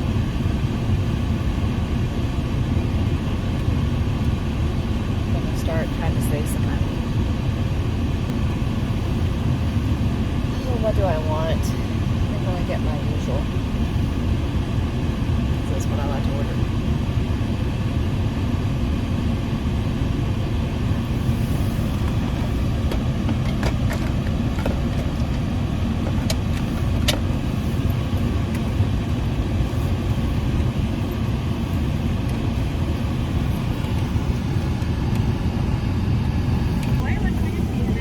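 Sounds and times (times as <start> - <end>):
car engine rumbling inside cabin: 0.0 - 38.0.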